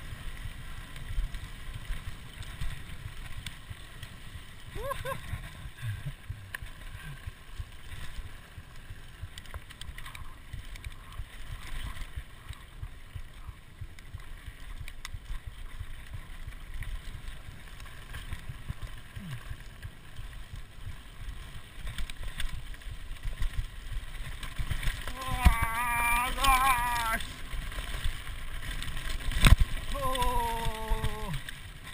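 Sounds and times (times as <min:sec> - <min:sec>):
bike rattles and clicks: 0:00.0 - 0:31.9
bike tyres rumbling on dirt: 0:00.0 - 0:31.9.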